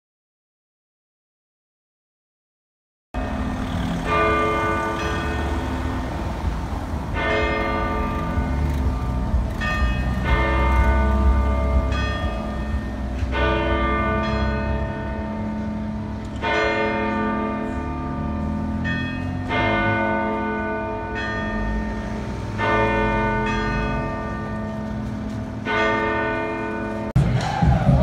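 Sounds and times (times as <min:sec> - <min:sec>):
church bells tolling: 0:03.2 - 0:27.2.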